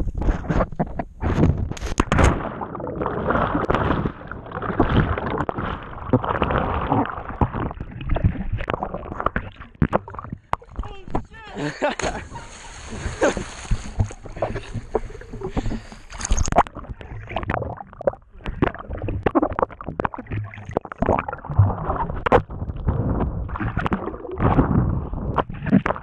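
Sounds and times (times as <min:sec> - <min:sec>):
underwater gurgling: 0:00.0 - 0:26.0
water splashing: 0:00.0 - 0:26.0.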